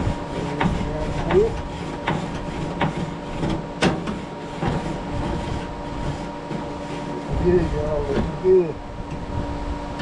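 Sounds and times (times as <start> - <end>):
grill brush scraping grate: 0.0 - 8.8.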